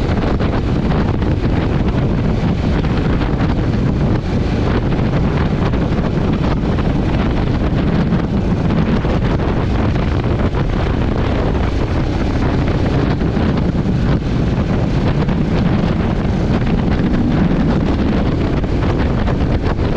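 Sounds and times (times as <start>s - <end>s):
wind buffeting microphone: 0.0s - 19.9s
motorcycle engine running: 0.1s - 19.9s.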